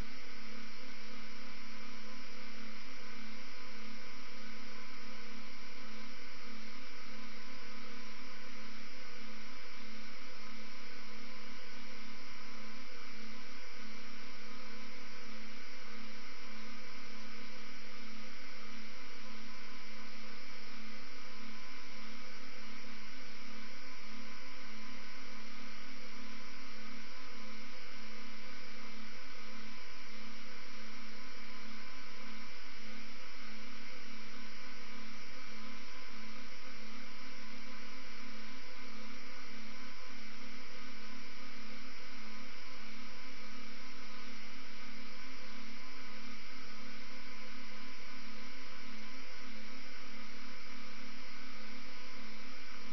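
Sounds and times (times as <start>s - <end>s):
electrical hum and hiss: 0.0s - 52.9s.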